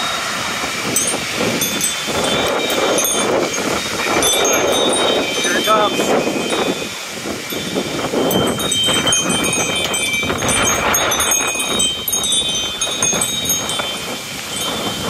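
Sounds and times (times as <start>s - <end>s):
strong wind gusting: 0.0s - 15.0s
metal wind chimes ringing: 0.8s - 15.0s.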